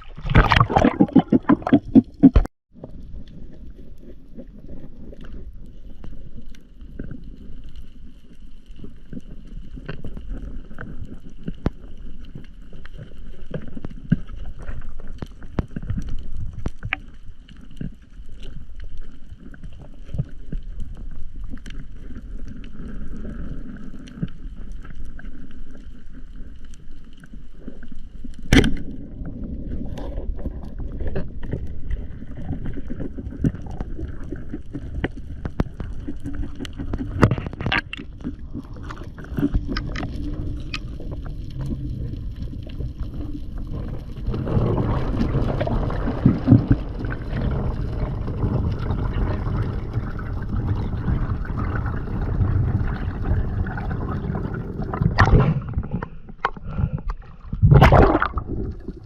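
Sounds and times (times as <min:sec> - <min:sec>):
muffled underwater rumble: 0:00.0 - 0:59.0
faint crackling clicks: 0:02.1 - 0:57.5.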